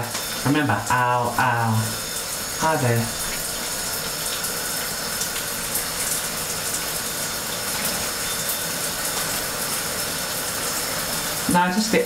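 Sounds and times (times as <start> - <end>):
shower water spraying: 0.0 - 12.0.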